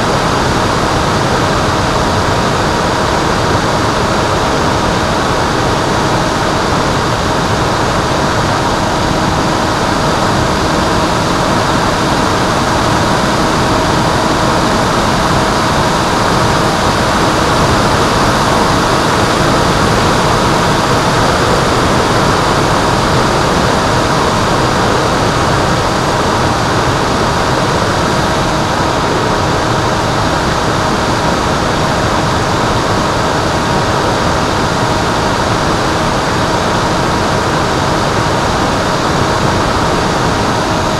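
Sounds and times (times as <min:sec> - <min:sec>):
wind rush over microphone: 0:00.0 - 0:40.9.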